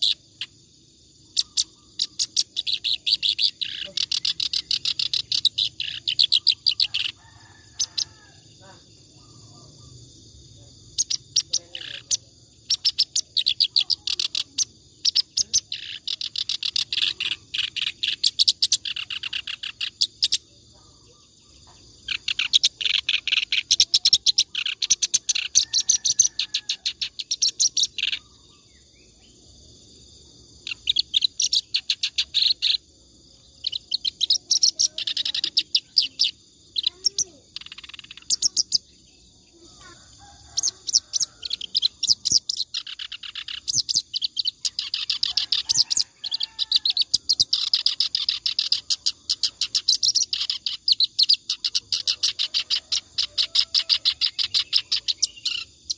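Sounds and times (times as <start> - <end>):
reed warbler singing: 0.0 - 0.6, 1.2 - 20.5, 21.1 - 28.9, 30.6 - 32.8, 33.5 - 39.3, 40.5 - 55.9.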